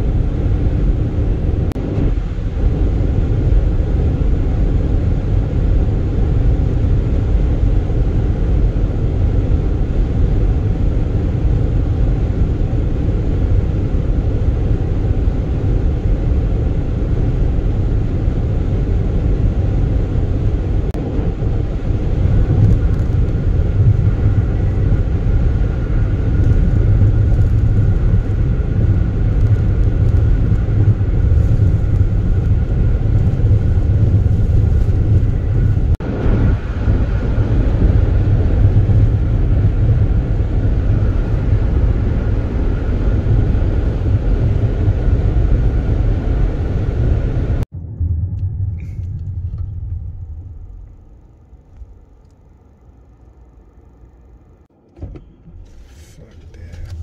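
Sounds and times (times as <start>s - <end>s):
car engine drone: 0.0s - 57.0s
tyre and road rumble: 0.0s - 57.0s.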